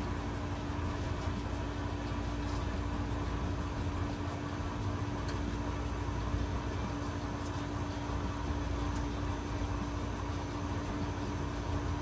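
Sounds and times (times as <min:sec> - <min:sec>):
fan hum and hiss: 0:00.0 - 0:12.0.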